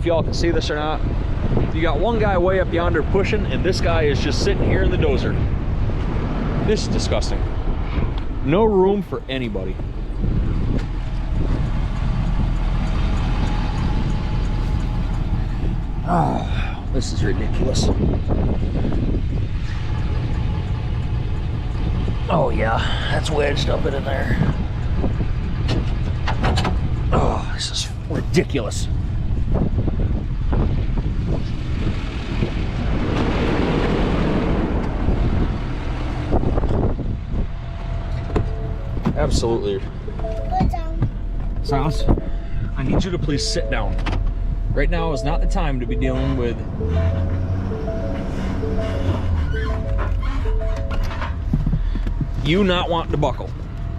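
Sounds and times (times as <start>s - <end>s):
wind rushing on microphone: 0.0s - 40.1s, 41.0s - 44.8s, 48.3s - 53.9s
heavy truck engine rumbling: 0.0s - 53.9s.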